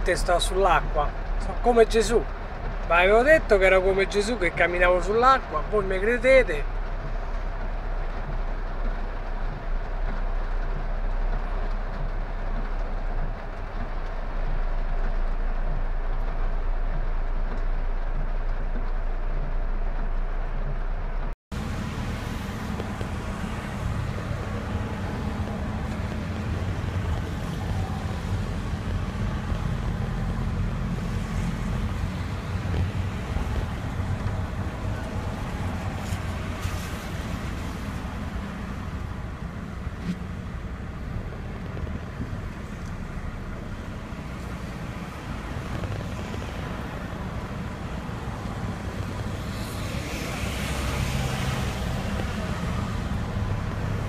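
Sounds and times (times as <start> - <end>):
car engine running: 0.0 - 54.0
tyres on wet road: 0.0 - 54.0.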